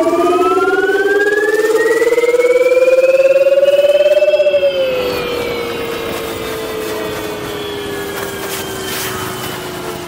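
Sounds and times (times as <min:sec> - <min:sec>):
electric scooter motor whining: 0:00.0 - 0:10.0
wind and road noise: 0:00.0 - 0:10.0.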